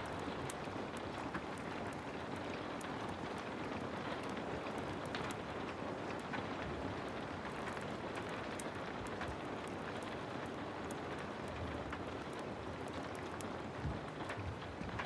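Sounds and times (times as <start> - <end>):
heavy rain: 0.0 - 15.0
wood fire crackles: 0.0 - 15.0.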